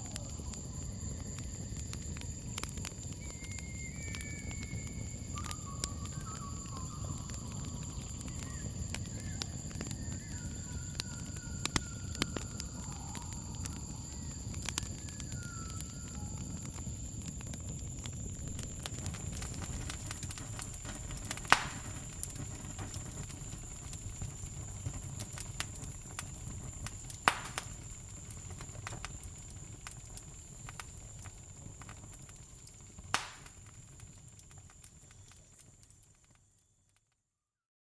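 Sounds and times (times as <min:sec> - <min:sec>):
loud fire pops: 0:00.0 - 0:36.1
campfire crackling: 0:00.0 - 0:36.6.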